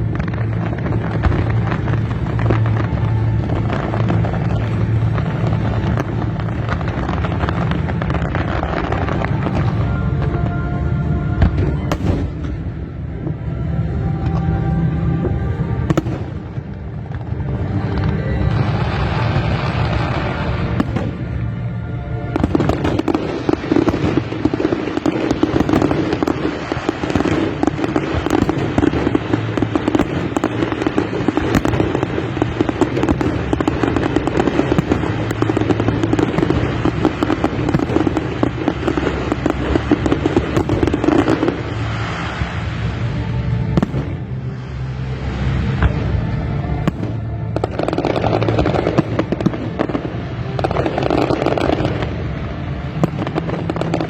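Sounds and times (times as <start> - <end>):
fireworks crackling rapidly: 0.0 - 13.0, 14.8 - 54.0
background music: 0.0 - 54.0.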